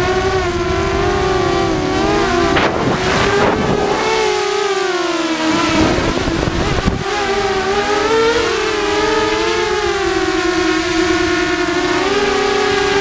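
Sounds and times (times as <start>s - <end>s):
drone motors whining: 0.0s - 13.0s
rush of noise: 0.0s - 13.0s.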